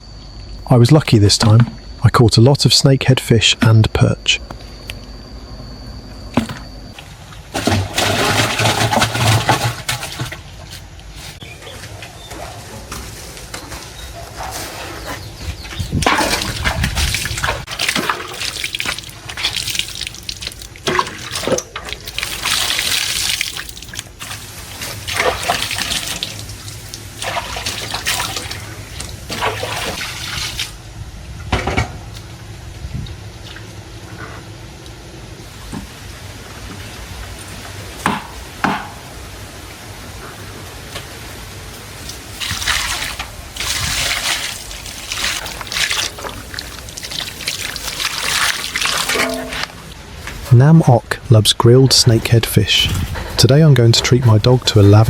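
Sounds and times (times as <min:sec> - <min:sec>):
water splashing and sloshing: 0:06.3 - 0:30.9, 0:31.5 - 0:55.0.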